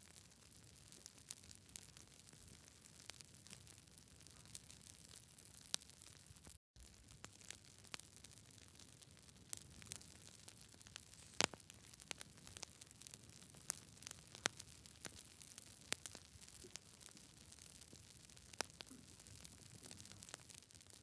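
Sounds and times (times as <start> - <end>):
wood fire crackling: 0.2 - 21.0.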